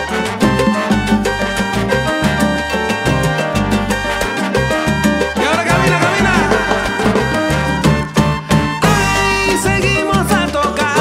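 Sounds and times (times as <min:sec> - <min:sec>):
instrumental salsa music: 0:00.0 - 0:11.0.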